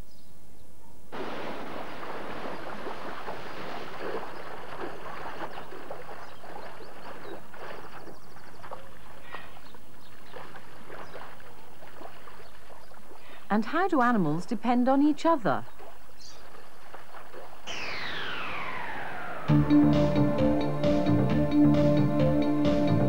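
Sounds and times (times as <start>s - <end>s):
water splashing and sloshing: 1.1s - 14.4s, 15.2s - 20.6s.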